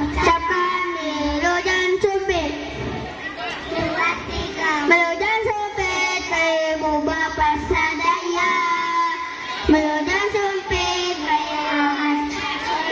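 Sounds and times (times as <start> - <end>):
children singing in unison: 0.0 - 12.9.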